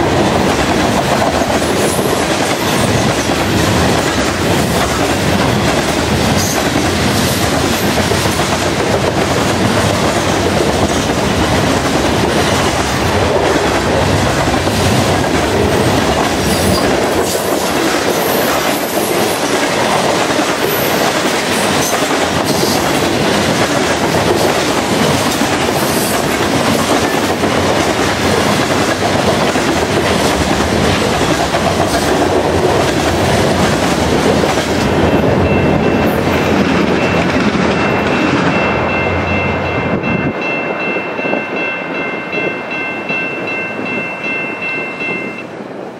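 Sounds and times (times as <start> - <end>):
steel wheels rushing on rails: 0.0 - 45.9.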